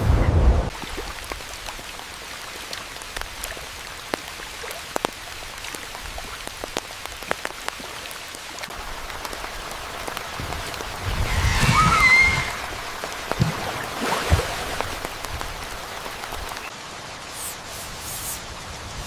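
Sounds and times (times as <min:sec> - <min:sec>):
steady rain hiss: 0:00.0 - 0:19.0
raindrops tapping a surface: 0:00.7 - 0:16.7.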